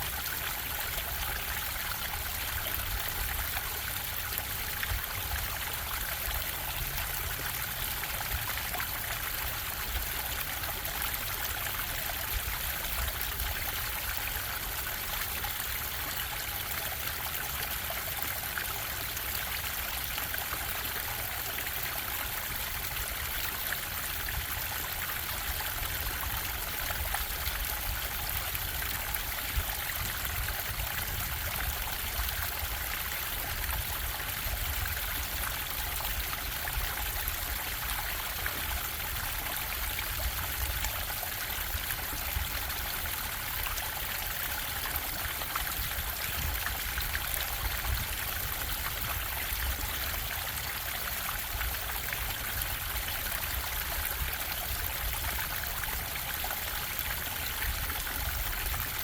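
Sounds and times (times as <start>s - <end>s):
stream water bubbling: 0.0s - 59.0s.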